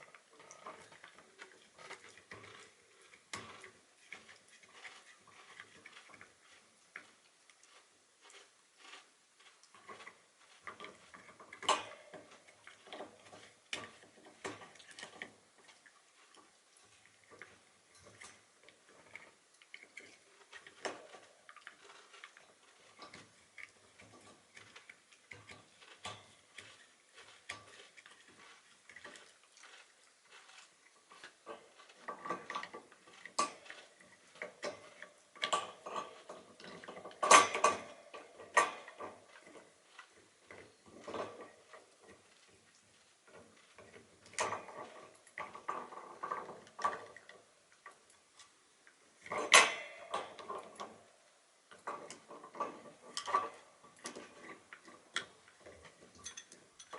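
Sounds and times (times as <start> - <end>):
dog gnawing hard chew: 0.0 - 48.5.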